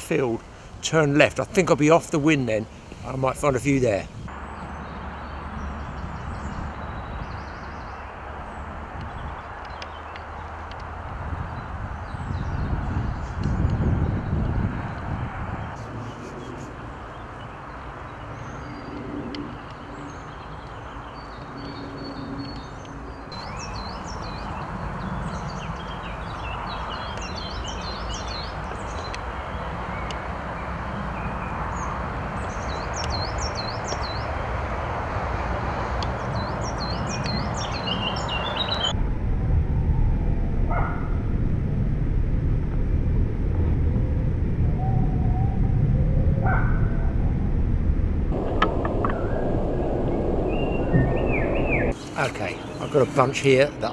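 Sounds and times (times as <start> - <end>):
songbirds chirping: 0.0 - 39.0, 48.4 - 53.9
breeze through trees: 0.0 - 53.9
low wind rumble on microphone: 0.0 - 53.9.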